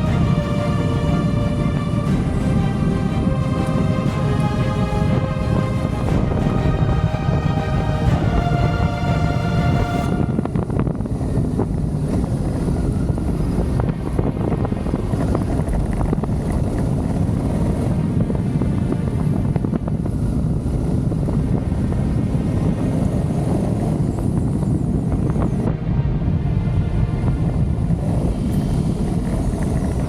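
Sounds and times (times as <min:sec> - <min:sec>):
low rumble: 0:00.0 - 0:30.0
wind rushing on microphone: 0:00.0 - 0:30.0.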